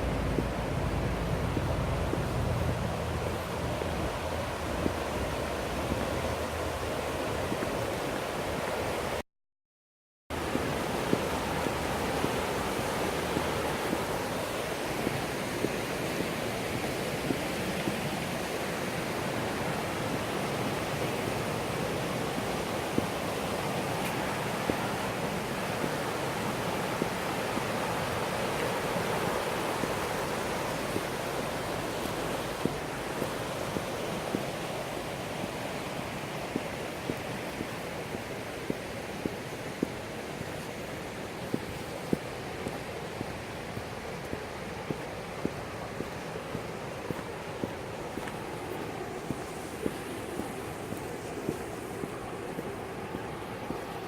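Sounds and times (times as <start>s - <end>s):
river water rushing: 0.0s - 9.2s, 10.3s - 54.0s.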